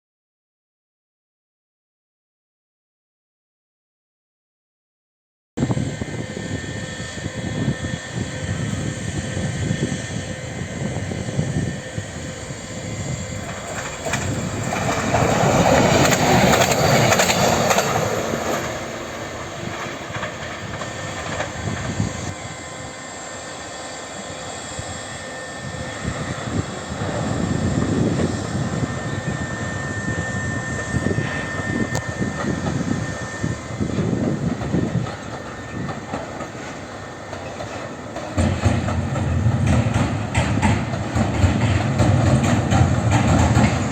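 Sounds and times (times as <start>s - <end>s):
train passing with rumble: 5.6s - 43.9s.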